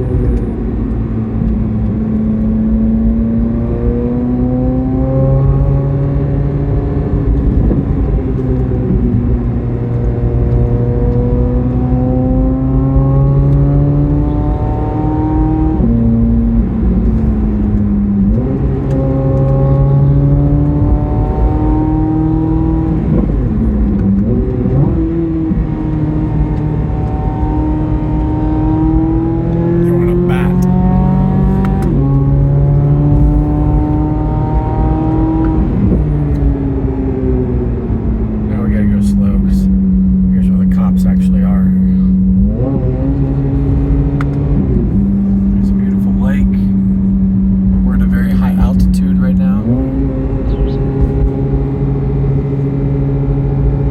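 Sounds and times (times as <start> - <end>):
sports car engine accelerating: 0.0 - 53.9.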